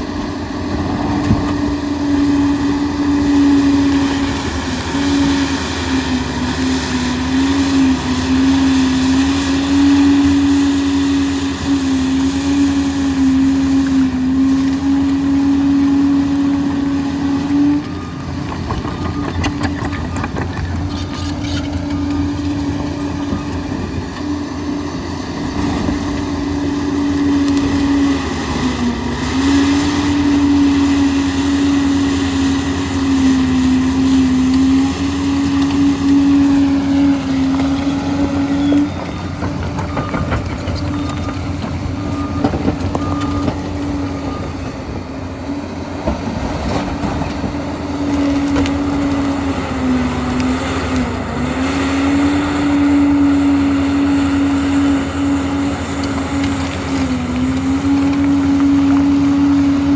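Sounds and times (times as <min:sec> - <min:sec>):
bulldozer engine droning: 0:00.0 - 0:59.9.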